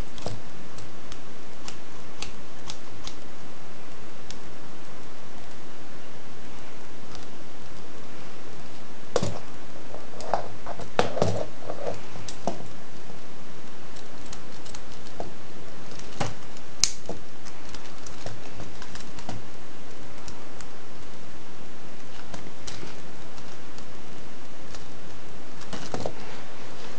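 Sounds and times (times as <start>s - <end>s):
steady hiss: 0.0s - 26.9s.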